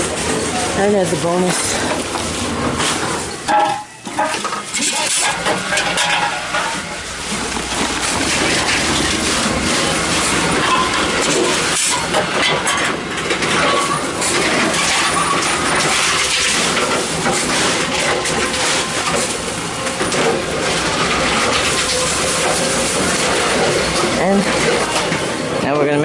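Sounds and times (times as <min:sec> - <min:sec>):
reverse vending machine running: 0:00.0 - 0:26.0.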